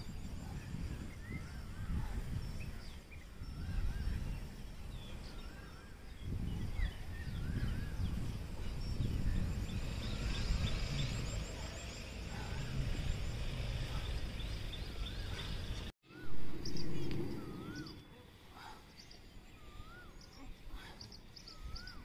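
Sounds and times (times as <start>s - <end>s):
wind rumble on microphone: 0.0s - 18.1s
birds calling with whistled notes: 0.0s - 22.0s.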